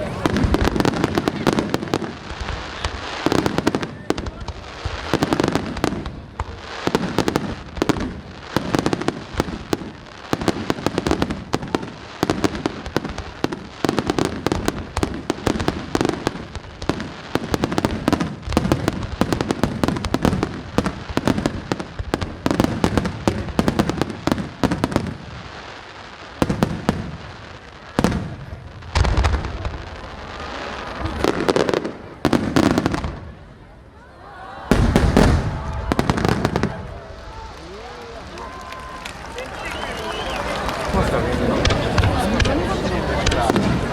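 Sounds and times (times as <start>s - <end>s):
deep fireworks booms: 0.0s - 33.8s, 34.7s - 43.9s
fireworks bangs and crackling: 0.0s - 33.9s, 34.6s - 43.9s.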